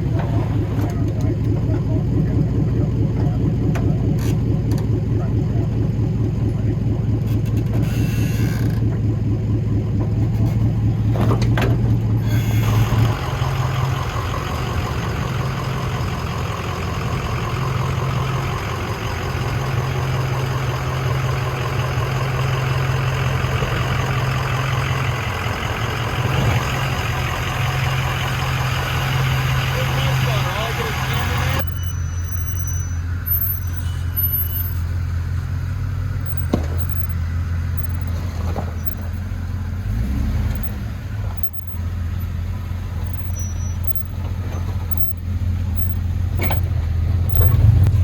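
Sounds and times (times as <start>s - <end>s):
off-road vehicle engine humming: 0.0s - 48.0s.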